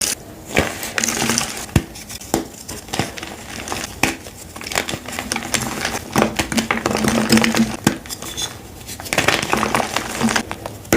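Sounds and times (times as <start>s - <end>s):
chalk crunching and crumbling: 0.0s - 10.7s.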